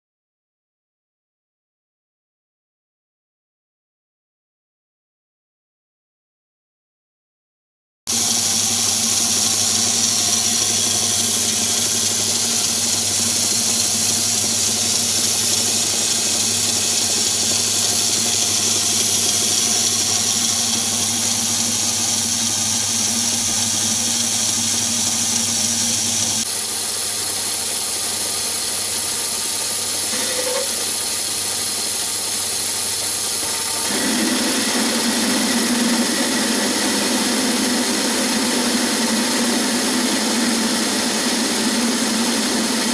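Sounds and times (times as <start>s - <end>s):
lathe humming and whining: 8.1s - 42.9s.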